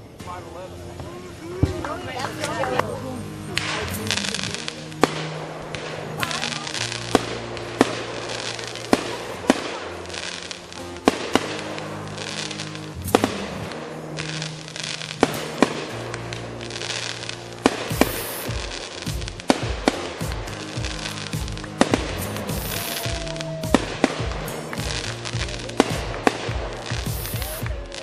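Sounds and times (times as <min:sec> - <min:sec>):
fireworks bangs: 0:00.0 - 0:28.0
electronic music with bass: 0:00.8 - 0:28.0.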